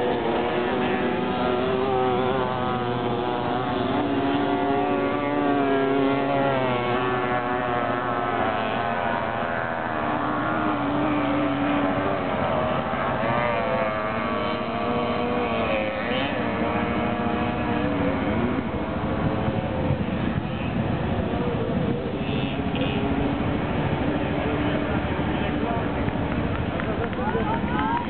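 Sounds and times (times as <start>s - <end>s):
moped engines revving: 0.0s - 28.0s.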